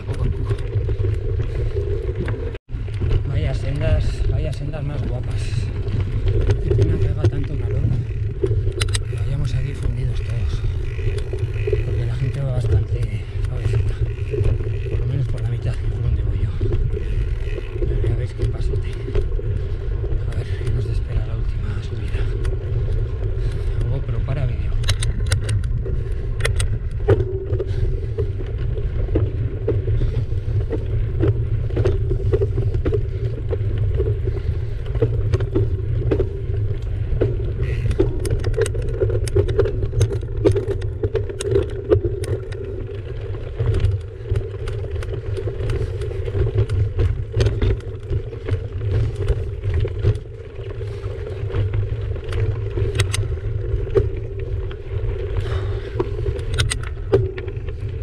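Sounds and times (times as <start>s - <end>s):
bike tyres rumbling on dirt: 0.0s - 58.0s
stones and bike rattling: 0.0s - 58.0s.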